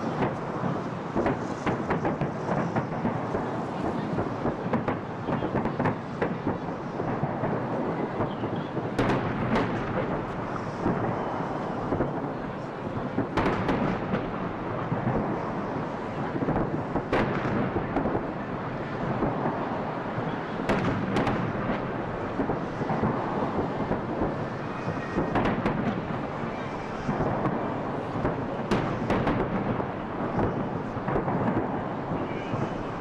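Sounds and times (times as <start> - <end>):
sharp firework cracks: 0.0 - 12.3, 13.1 - 33.0
fireworks booming: 0.0 - 33.0.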